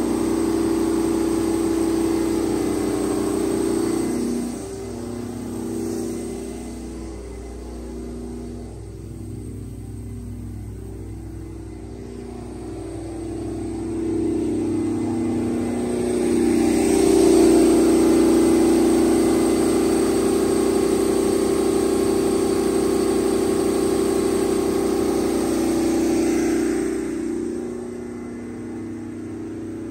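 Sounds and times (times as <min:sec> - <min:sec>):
diesel generator running: 0:00.0 - 0:29.9.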